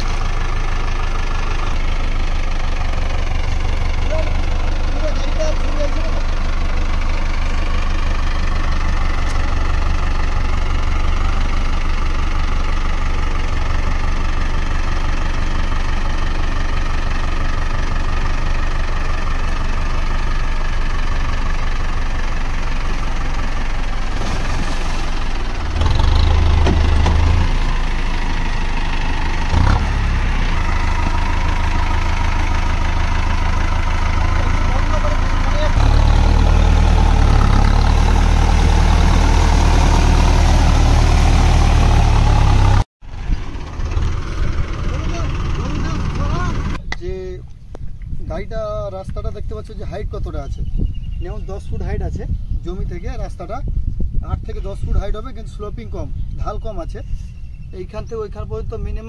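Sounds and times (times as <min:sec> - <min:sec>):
tractor diesel engine running: 0:00.0 - 0:47.5.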